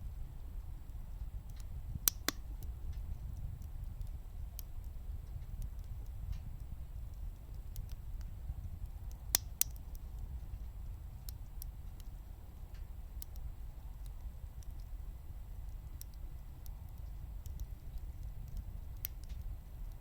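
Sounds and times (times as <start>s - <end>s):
firewood crackling and popping: 0.0s - 20.0s
stove low rumble: 0.0s - 20.0s.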